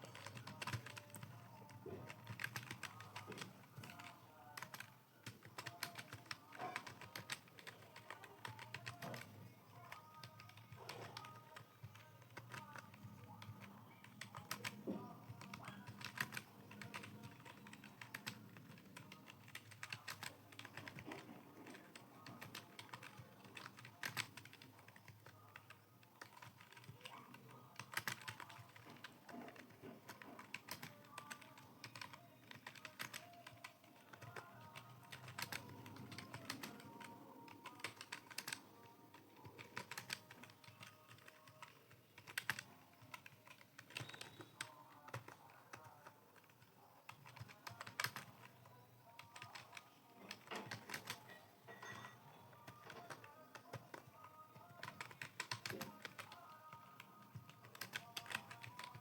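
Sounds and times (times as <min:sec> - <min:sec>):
keyboard typing clicks: 0:00.0 - 0:59.0.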